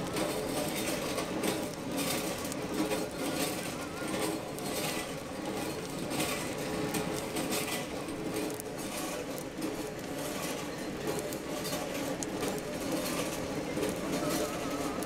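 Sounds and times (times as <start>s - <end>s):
chestnut roasting stall running: 0.0s - 15.0s.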